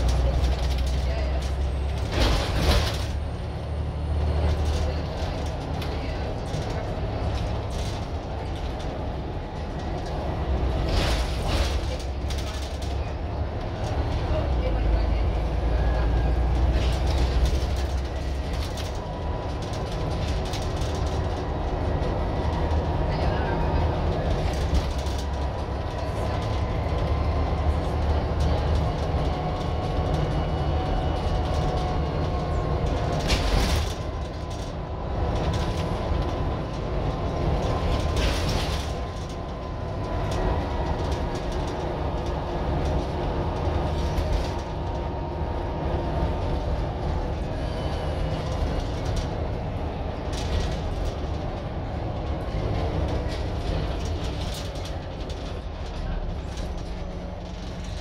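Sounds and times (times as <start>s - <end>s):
low diesel drone: 0.0s - 58.0s
road noise: 0.0s - 58.0s.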